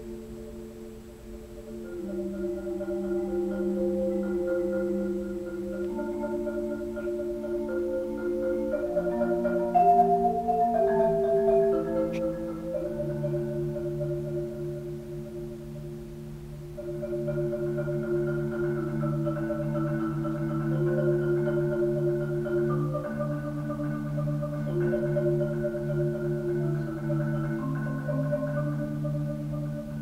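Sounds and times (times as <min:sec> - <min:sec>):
marimba playing rolled chords: 0:00.0 - 0:30.0.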